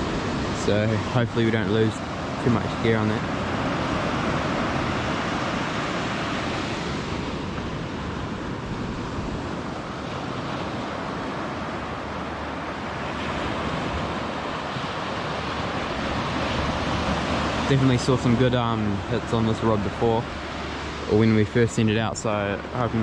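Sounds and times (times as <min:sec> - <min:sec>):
sea waves washing ashore: 0:00.0 - 0:23.0
wind on microphone: 0:00.0 - 0:23.0.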